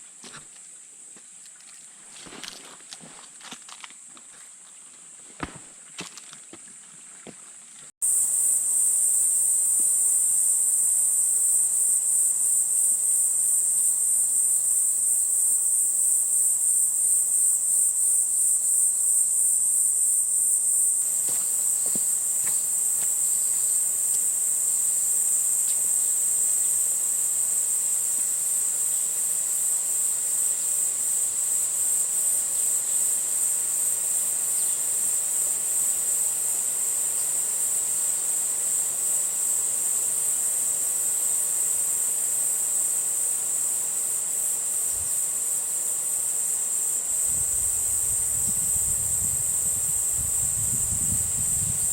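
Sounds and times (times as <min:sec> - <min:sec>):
shrill insect chorus: 0:08.0 - 0:51.9.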